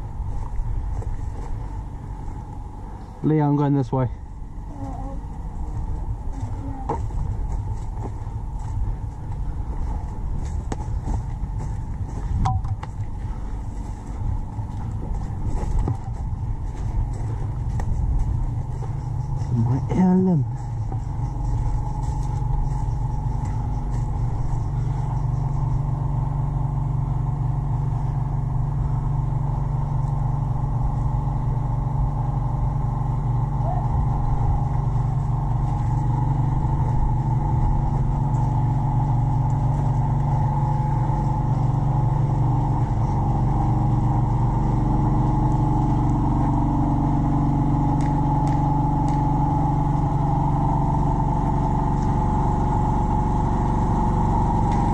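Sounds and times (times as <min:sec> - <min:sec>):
mechanical hum with droning tone: 0:00.0 - 0:54.9.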